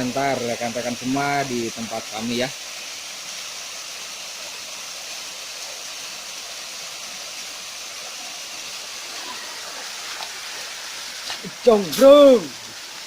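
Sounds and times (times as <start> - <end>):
river water rushing: 1.0 - 13.0.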